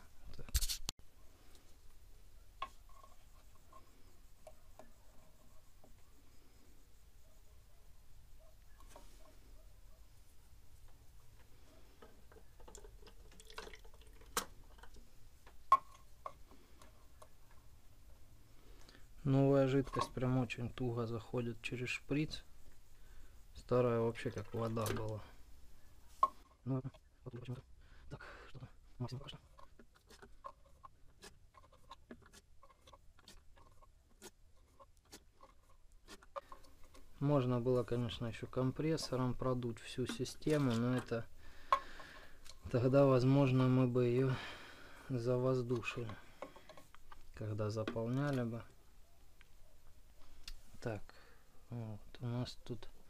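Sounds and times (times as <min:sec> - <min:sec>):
faint clicks and rustles: 0:00.0 - 0:27.7, 0:28.6 - 0:51.1.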